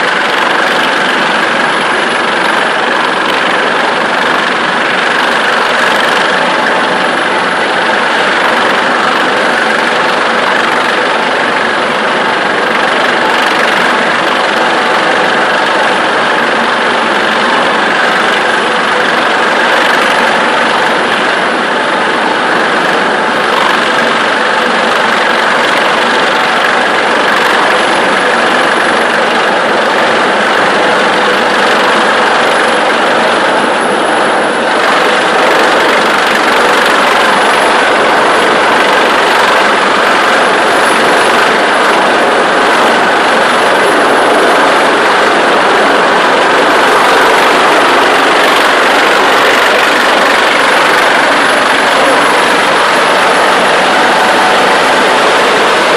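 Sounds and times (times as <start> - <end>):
helicopter hovering overhead: 0.0 - 55.9.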